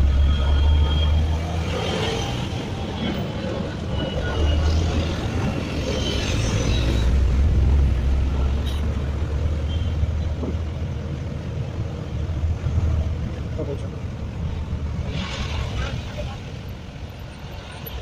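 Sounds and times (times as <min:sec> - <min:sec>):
road and traffic noise: 0:00.0 - 0:18.0
vehicle engine rumbling: 0:00.0 - 0:18.0.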